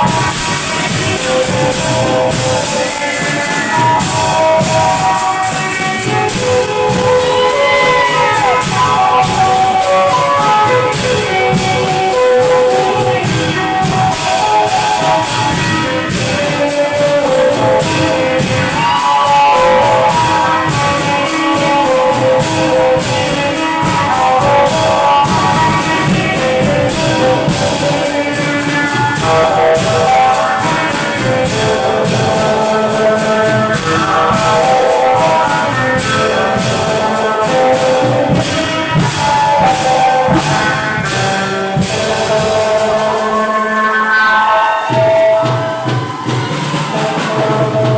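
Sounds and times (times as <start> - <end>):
long drums drumming: 0.0 - 44.1, 44.7 - 47.9.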